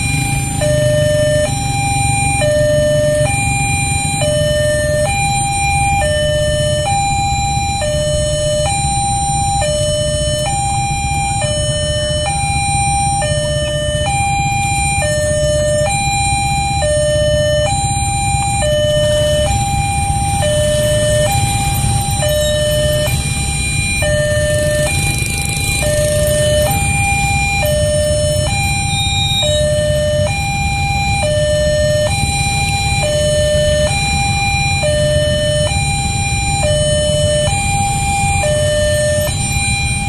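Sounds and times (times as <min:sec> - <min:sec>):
motorcycle engines idling: 0:00.0 - 0:40.0.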